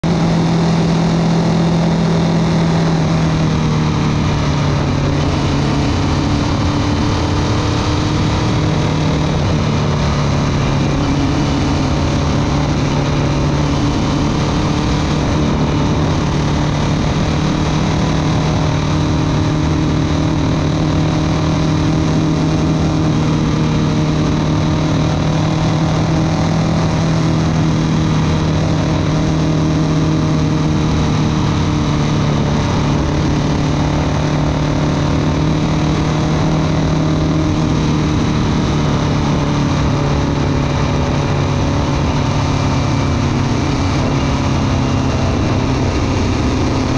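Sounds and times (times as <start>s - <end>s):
motorcycle engine running: 0.0s - 46.9s
road noise: 0.0s - 46.9s
wind noise: 0.0s - 46.9s.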